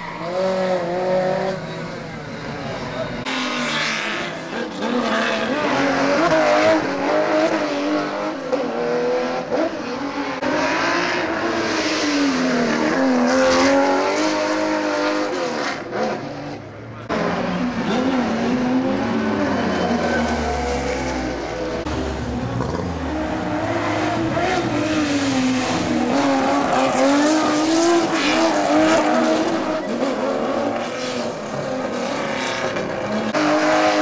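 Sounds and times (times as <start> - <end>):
rally car engine revving: 0.0 - 2.2, 2.8 - 34.0
second rally car engine: 0.0 - 34.0.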